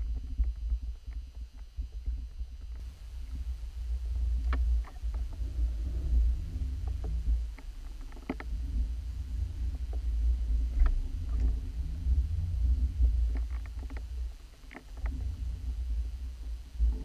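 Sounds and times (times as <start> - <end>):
faint clicks and ticks: 0.0 - 17.0
underwater water rumble: 0.0 - 17.0.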